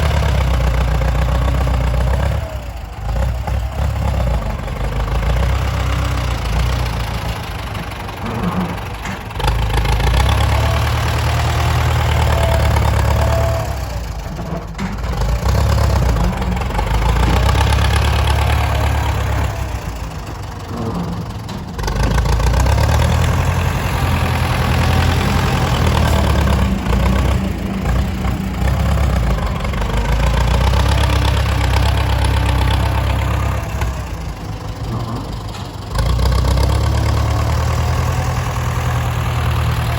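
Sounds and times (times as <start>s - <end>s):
heavy truck and tractor engines: 0.0s - 39.9s.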